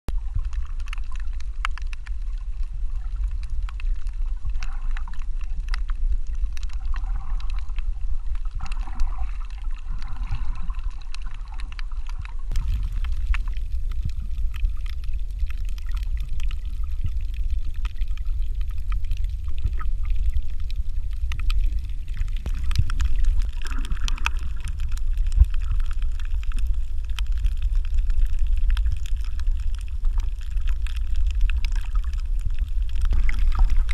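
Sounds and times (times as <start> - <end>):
muffled underwater rumble: 0.1 - 33.9
sharp underwater clicks and crackles: 0.1 - 33.9.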